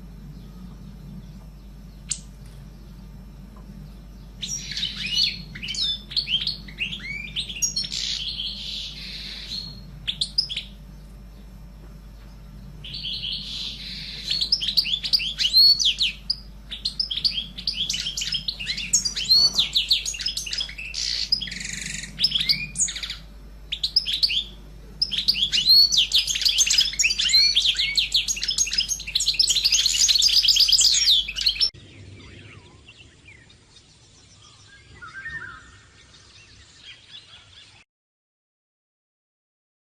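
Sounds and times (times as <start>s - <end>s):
canary singing: 0.0s - 37.8s.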